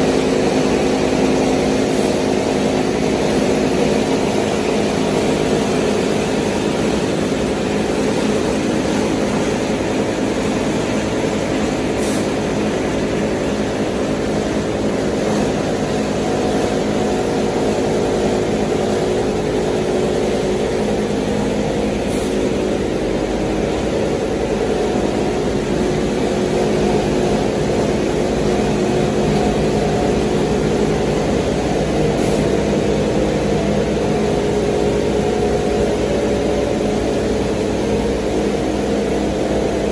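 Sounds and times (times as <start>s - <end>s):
machine mechanical drone: 0.0s - 39.9s.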